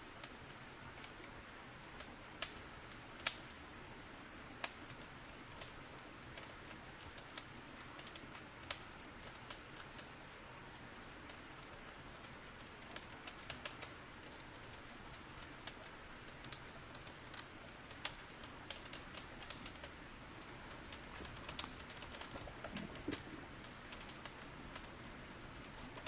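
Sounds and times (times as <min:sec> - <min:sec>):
firewood crackling and popping: 0:00.0 - 0:26.0
soft fire hiss: 0:00.0 - 0:26.0.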